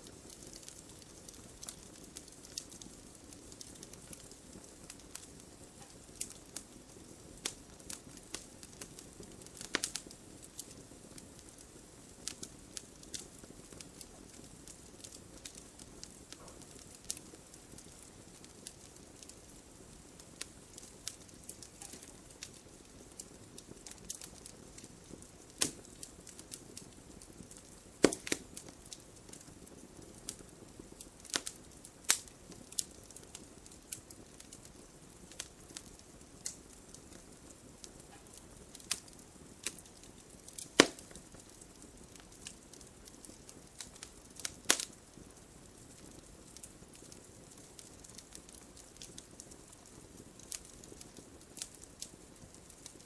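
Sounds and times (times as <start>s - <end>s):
fire crackling and popping: 0.0s - 53.0s
fire hissing: 0.0s - 53.0s.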